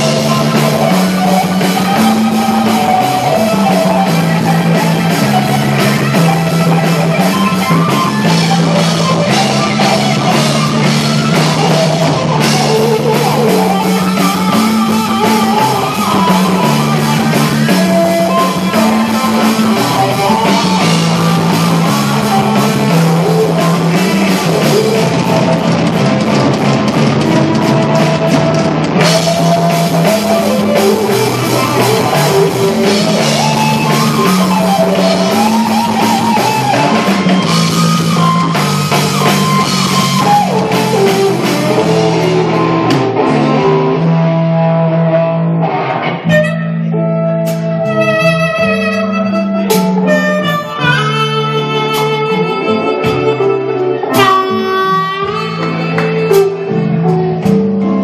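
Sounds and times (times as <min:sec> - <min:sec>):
bass guitar: 0:00.0 - 0:58.0
drum kit: 0:00.0 - 0:58.0
electric guitar lead lines: 0:00.0 - 0:58.0.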